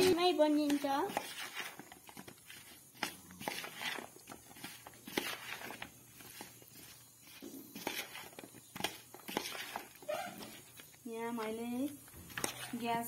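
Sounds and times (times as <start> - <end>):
spoon scraping in bowl: 0.0 - 11.0, 12.3 - 13.0.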